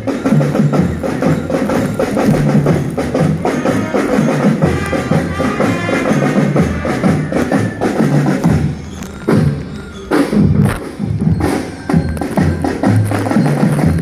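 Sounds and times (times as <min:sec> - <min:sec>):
marching drums: 0:00.0 - 0:14.0
melody instruments: 0:00.0 - 0:14.0.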